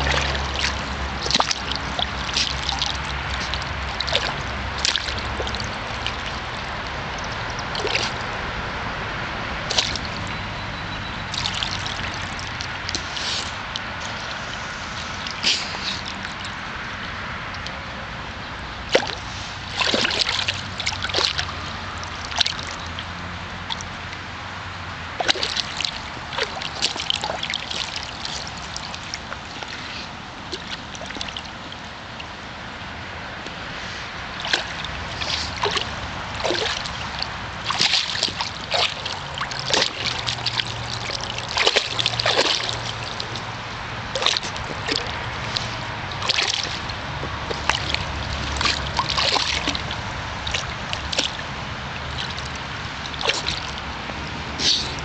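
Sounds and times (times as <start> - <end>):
dog paws splashing in water: 0.0 - 17.9, 18.8 - 55.0.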